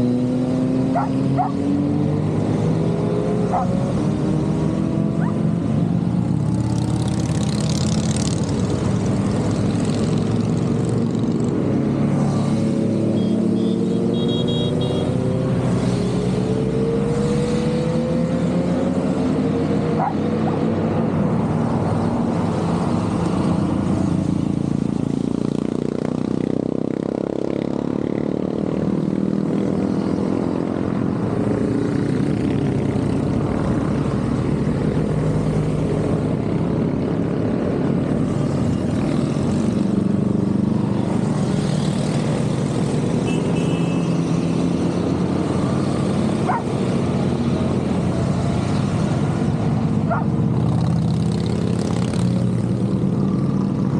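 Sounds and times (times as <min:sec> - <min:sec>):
motorcycles riding past: 0:00.0 - 0:53.9.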